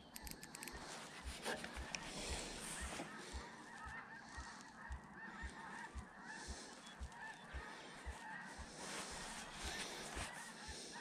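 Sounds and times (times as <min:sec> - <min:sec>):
flock of waterbirds calling: 0:00.0 - 0:11.0.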